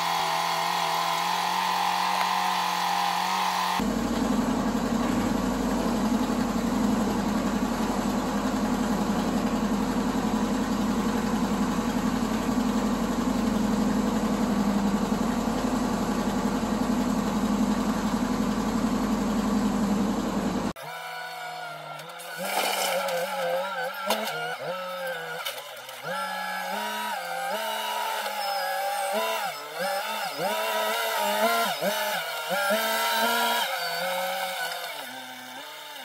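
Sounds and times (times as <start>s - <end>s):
truck engine heard from cab: 0.0s - 36.0s.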